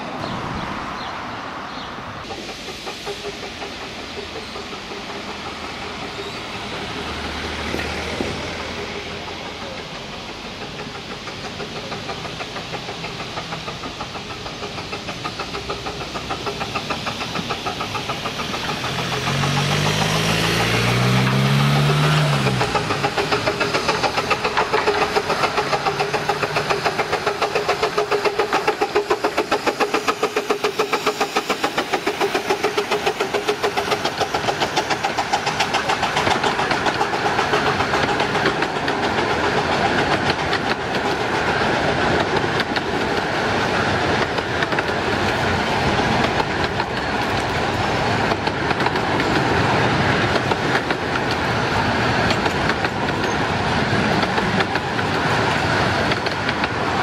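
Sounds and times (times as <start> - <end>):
steam locomotive chuffing: 2.2 - 57.0.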